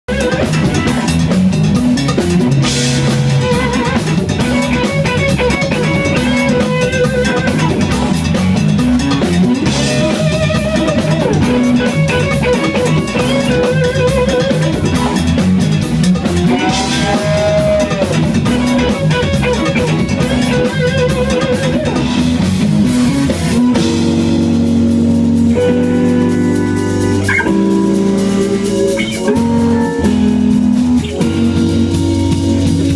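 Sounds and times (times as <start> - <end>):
bass groove: 0.0 - 32.9
drum kit: 0.0 - 32.9
electric guitar lead: 0.1 - 32.9.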